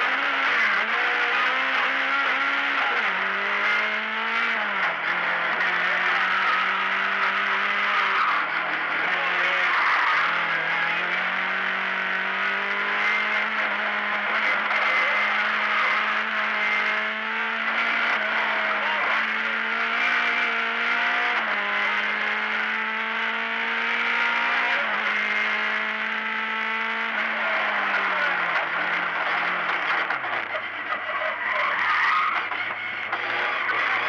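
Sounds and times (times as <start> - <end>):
race car engine at high revs: 0.0 - 34.0.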